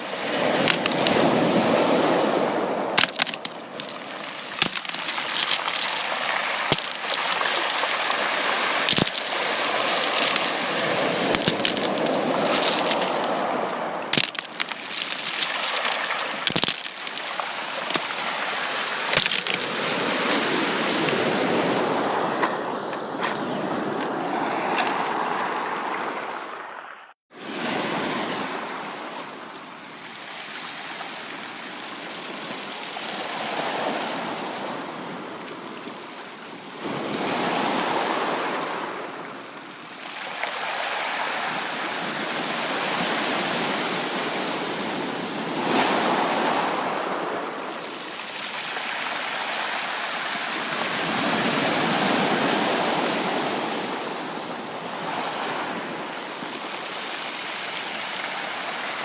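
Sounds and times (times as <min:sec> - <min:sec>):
ocean waves on a beach: 0:00.0 - 0:59.0.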